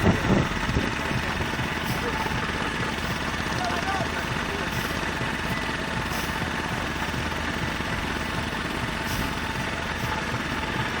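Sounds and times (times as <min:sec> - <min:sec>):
boat engine throbbing: 0:00.0 - 0:11.0.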